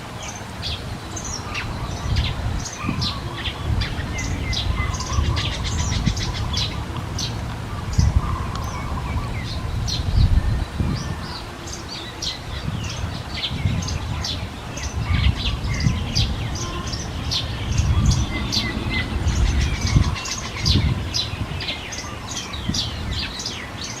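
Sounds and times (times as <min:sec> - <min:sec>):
baby birds chirping: 0:01.2 - 0:24.0
low rumbles: 0:01.4 - 0:11.5, 0:12.2 - 0:21.6.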